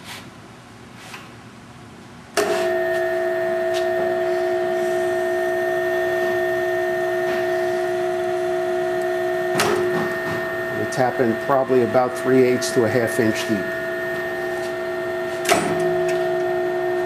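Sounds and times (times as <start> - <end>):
drill press whining: 2.4 - 17.0.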